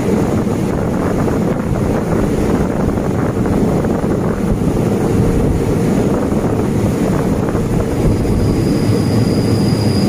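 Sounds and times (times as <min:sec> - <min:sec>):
moving train rushing noise: 0:00.0 - 0:10.0
wind buffeting microphone: 0:00.0 - 0:10.0.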